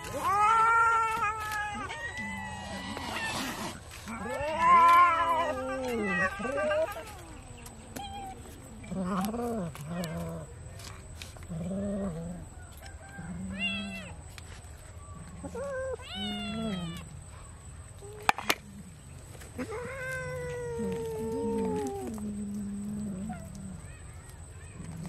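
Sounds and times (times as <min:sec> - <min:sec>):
cats yowling and meowing: 0:00.0 - 0:10.5, 0:11.4 - 0:14.3, 0:14.9 - 0:25.0.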